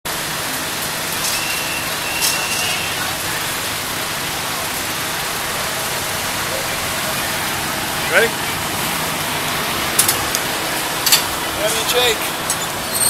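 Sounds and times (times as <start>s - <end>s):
ride machinery hiss: 0.7s - 13.0s
thin high tone: 1.1s - 13.0s.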